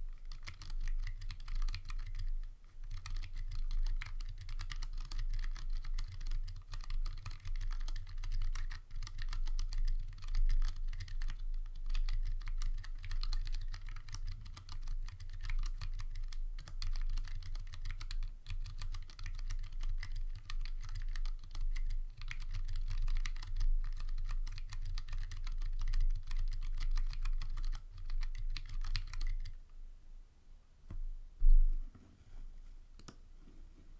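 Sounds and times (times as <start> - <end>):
fast mechanical keyboard typing: 0.1 - 29.6.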